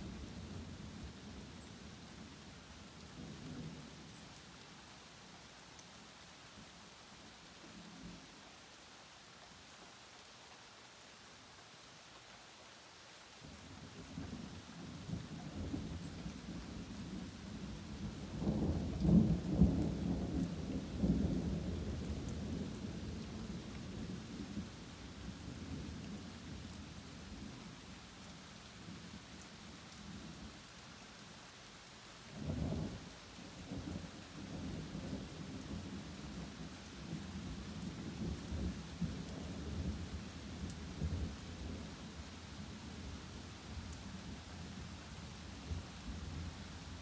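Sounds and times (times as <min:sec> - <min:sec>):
steady rain: 0:00.0 - 0:47.0.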